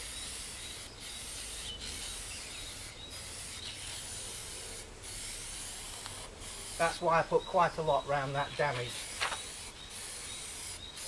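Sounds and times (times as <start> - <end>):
aerosol can spraying hiss: 0.0 - 11.0.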